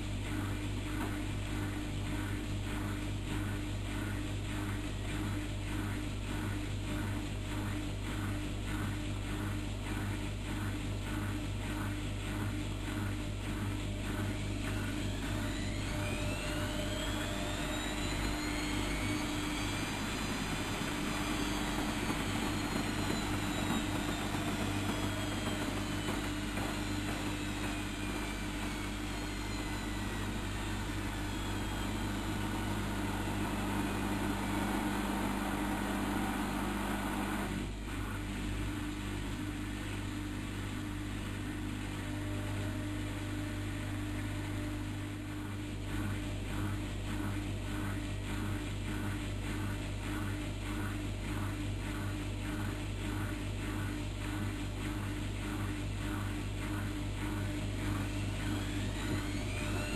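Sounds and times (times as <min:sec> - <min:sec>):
steady hum: 0:00.0 - 0:59.9
washing machine motor whine: 0:00.0 - 0:59.9.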